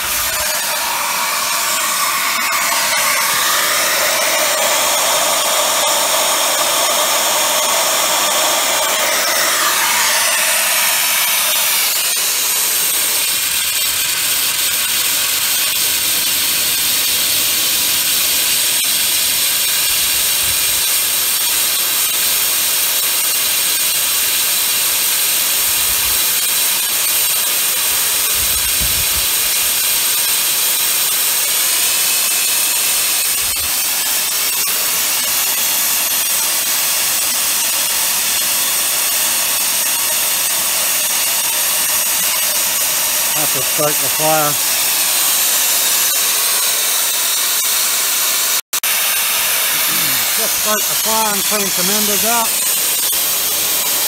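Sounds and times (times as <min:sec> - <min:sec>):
steam hissing from boiler: 0:00.0 - 0:54.0.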